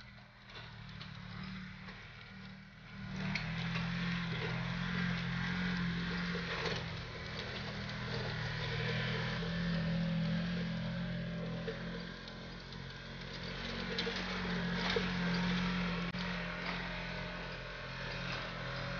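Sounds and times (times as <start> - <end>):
utility vehicle engine running: 0.0 - 18.9.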